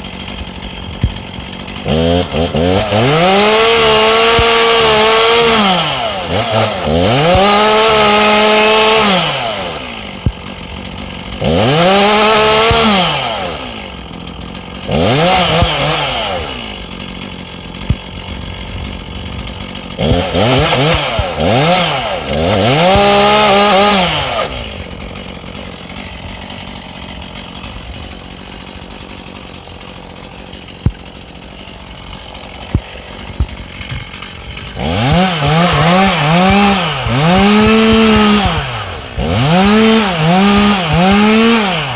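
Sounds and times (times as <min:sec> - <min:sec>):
two-stroke chainsaw revving: 0:00.0 - 0:41.9.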